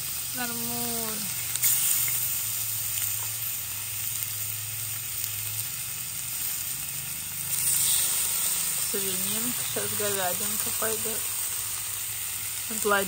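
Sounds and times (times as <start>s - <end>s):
pork sizzling on a grill: 0.0s - 13.0s.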